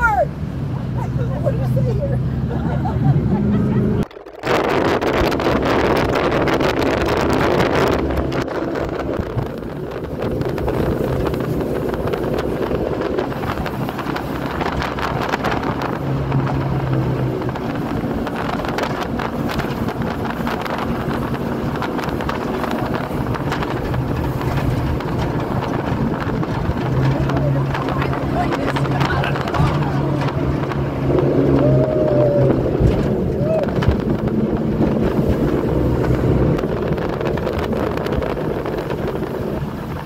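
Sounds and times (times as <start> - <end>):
boat engine drone: 0.0 - 40.0
water rushing along hull: 0.0 - 40.0
wind buffeting microphone: 0.0 - 40.0.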